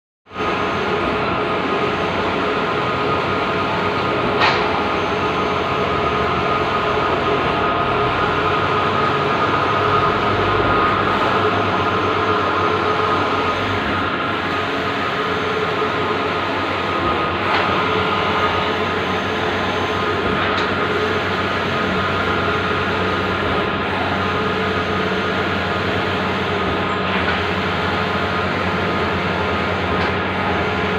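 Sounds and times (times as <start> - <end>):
printer whirring: 0.3 - 30.9.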